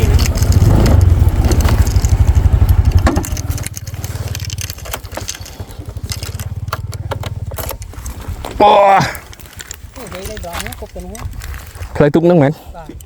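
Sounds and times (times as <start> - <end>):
small engine running: 0.0 - 11.6
clattering and crunching: 0.0 - 12.1.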